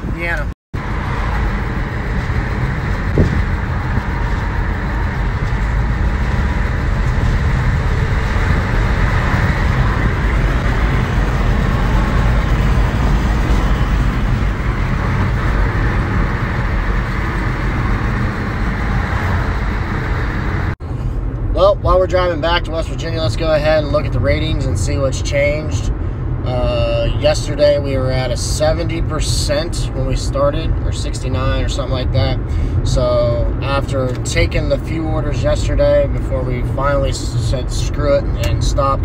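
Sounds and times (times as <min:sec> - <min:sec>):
car road and wind noise: 0:00.0 - 0:39.0.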